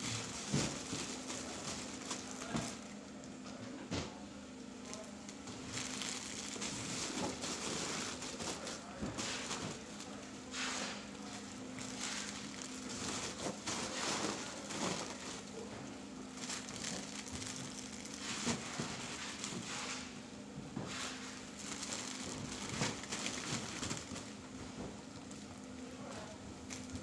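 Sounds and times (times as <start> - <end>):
plastic packaging rustling: 0.0 - 3.4, 4.8 - 20.1, 20.9 - 27.0
low machine hum: 0.0 - 27.0.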